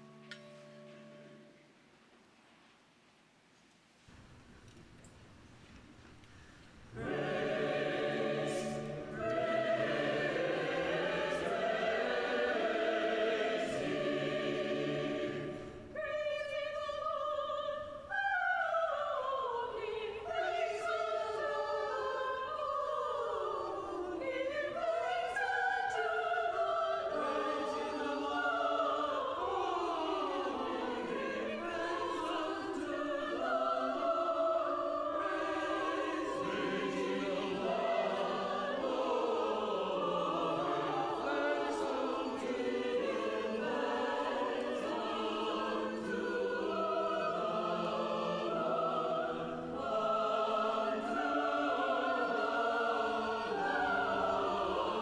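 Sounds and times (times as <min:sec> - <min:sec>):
church choir singing a hymn: 0:06.9 - 0:55.0.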